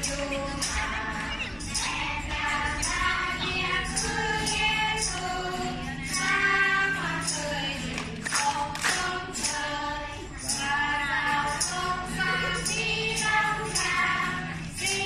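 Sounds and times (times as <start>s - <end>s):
group of voices singing: 0.0s - 15.0s
jingling tambourine beat: 0.0s - 15.0s.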